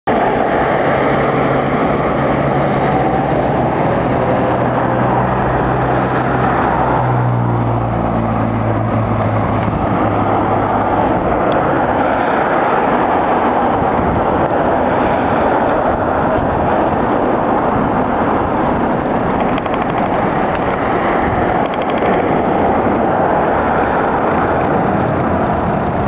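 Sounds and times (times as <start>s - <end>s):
road and wind rush: 0.0s - 26.0s
car engine drone: 0.1s - 26.0s.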